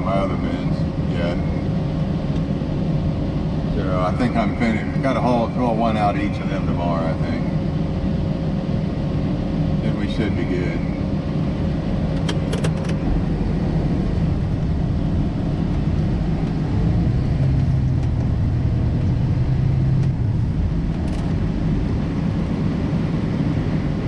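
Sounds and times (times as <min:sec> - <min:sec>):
combine harvester droning: 0:00.0 - 0:24.0
deeper hum: 0:00.0 - 0:24.0.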